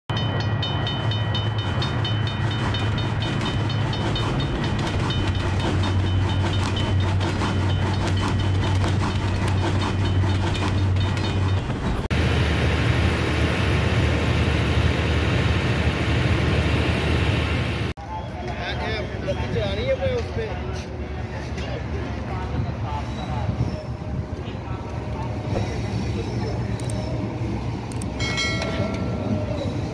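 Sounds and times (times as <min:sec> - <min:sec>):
rapid regular train clicking: 0:00.1 - 0:12.3, 0:15.2 - 0:29.9
railway station rumble: 0:00.1 - 0:29.9.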